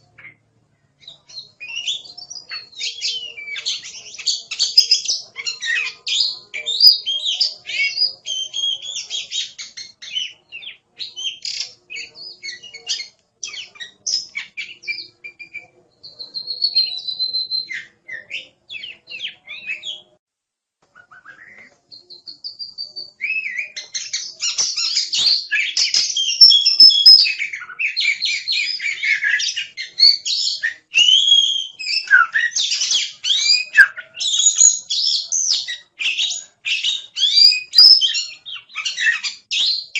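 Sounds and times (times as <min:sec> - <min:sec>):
magpie-robin singing: 0:01.0 - 0:20.2, 0:21.0 - 0:39.9.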